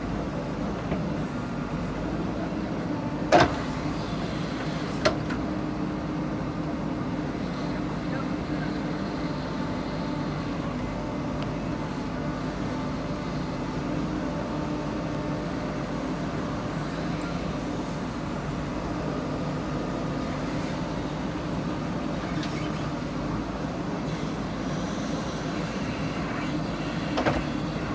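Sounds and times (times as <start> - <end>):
diesel engine running steadily: 0.0 - 27.9.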